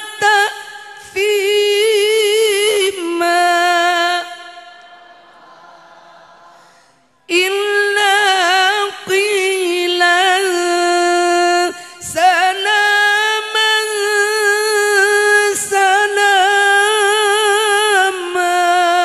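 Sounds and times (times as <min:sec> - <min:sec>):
woman singing unaccompanied: 0:00.0 - 0:04.7, 0:07.3 - 0:19.0.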